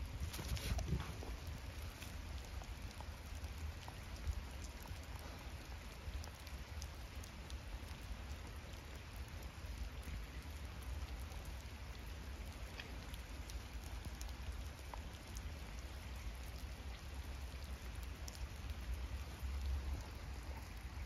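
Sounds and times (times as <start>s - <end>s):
rain on ground and leaves: 0.0s - 21.0s.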